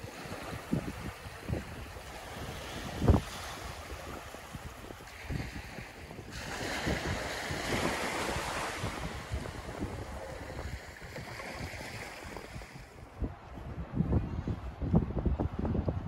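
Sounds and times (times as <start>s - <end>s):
small wave washing over sand: 0.0s - 13.0s
wind buffeting microphone: 0.0s - 16.0s.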